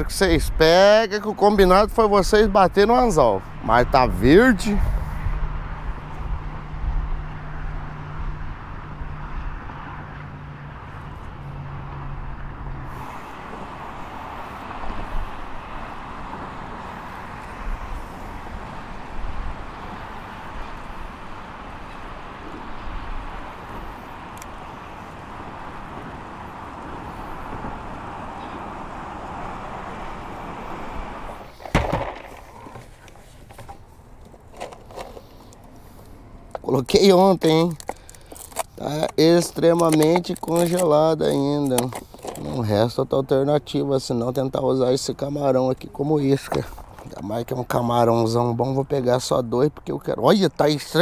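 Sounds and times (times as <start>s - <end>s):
low engine hum: 0.0s - 48.7s.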